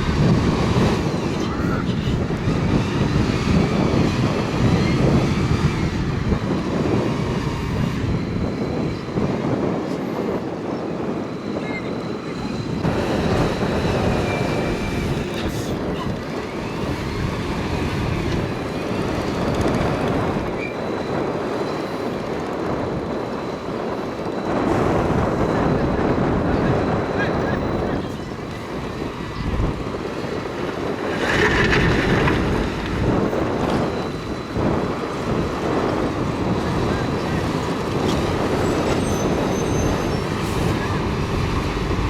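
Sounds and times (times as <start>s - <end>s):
bulldozer diesel engine rumbling: 0.0s - 8.8s, 12.1s - 42.0s.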